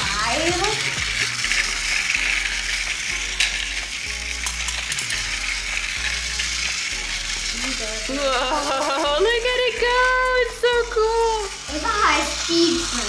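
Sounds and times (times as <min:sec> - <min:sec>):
toy train whirring rattle: 0:00.0 - 0:13.0.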